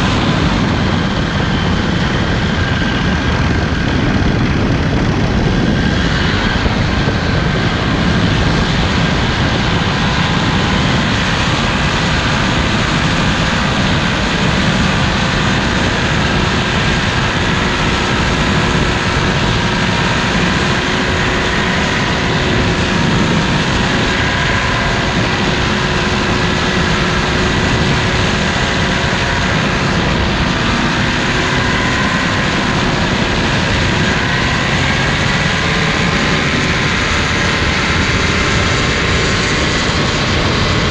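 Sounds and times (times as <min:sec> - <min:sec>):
paramotor engine drone: 0:00.0 - 0:40.9.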